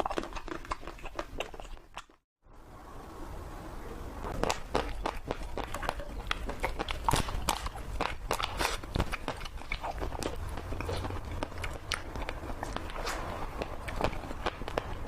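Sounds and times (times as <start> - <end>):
wet mouth smacks eating: 0.0 - 2.2, 4.4 - 15.0.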